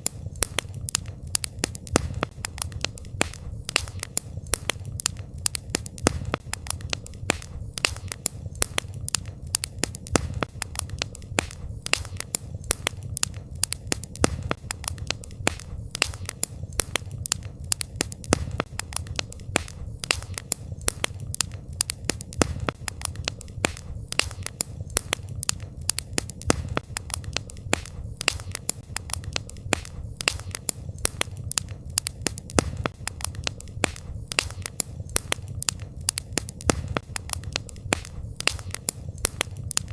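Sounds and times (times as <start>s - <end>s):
campfire crackling and popping: 0.0s - 39.9s
low rumble of burning fire: 0.0s - 39.9s.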